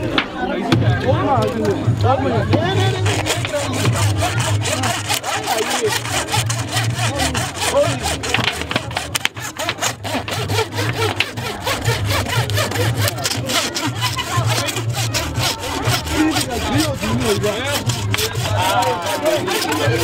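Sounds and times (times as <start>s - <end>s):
hand saw cutting bone: 2.5s - 20.0s.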